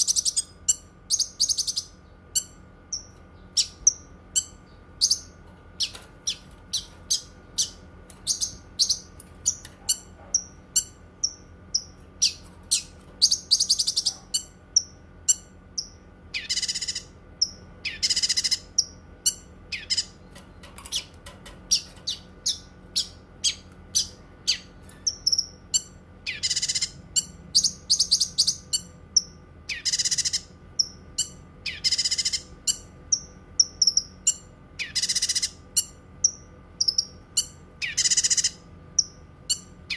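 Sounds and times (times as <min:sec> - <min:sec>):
bird chirping: 0:00.0 - 0:39.9
buzzy bird trills: 0:00.0 - 0:39.9.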